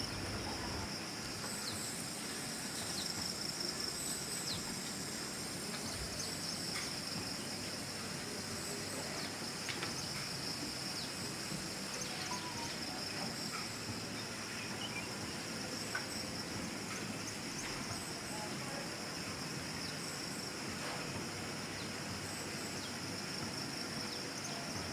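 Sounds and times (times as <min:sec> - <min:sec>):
high-pitched chorus of insects: 0:00.0 - 0:20.7.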